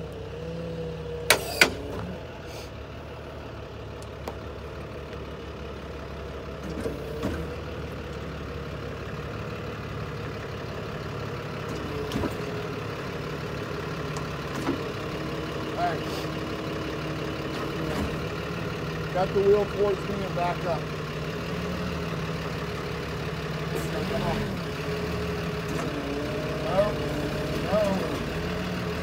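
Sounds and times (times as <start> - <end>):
tow truck engine running: 0.0 - 29.0.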